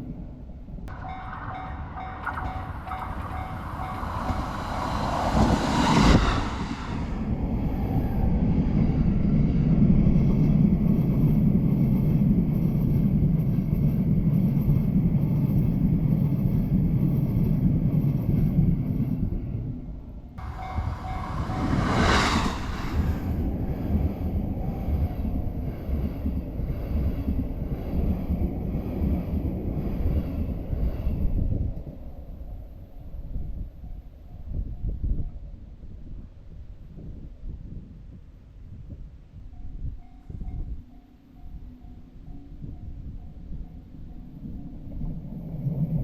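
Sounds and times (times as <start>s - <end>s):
train rumbling over rails: 0.0s - 35.2s, 42.2s - 46.0s.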